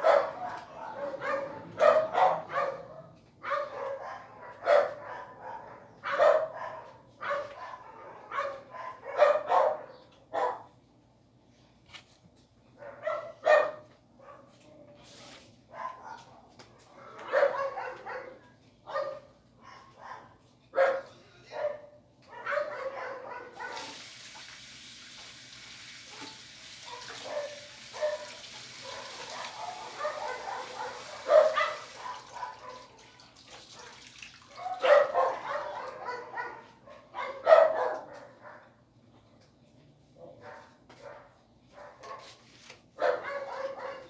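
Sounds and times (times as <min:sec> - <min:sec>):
dog barking: 0:00.0 - 0:10.8, 0:12.8 - 0:14.6, 0:15.7 - 0:24.0, 0:26.1 - 0:38.8, 0:40.2 - 0:42.4, 0:43.0 - 0:44.0.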